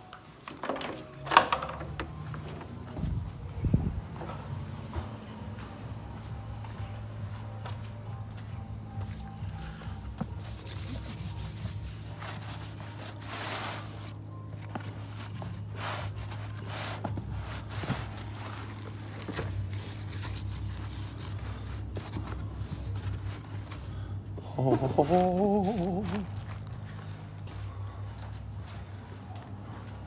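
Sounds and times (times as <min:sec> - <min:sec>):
steady low hum: 0:02.7 - 0:30.0.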